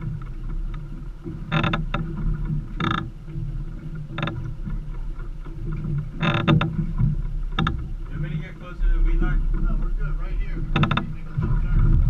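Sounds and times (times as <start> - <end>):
outboard motors idling: 0.0 - 12.0.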